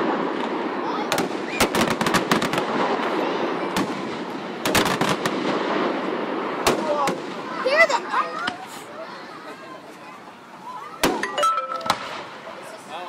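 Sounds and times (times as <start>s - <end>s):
fireworks bangs and cracks: 0.0s - 8.8s, 11.0s - 12.8s.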